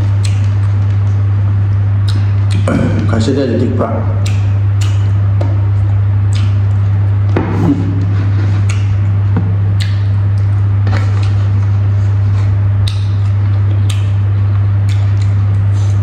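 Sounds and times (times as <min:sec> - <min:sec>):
man chewing and lip smacking: 0:00.0 - 0:03.1, 0:04.0 - 0:16.0
loud low hum: 0:00.0 - 0:16.0.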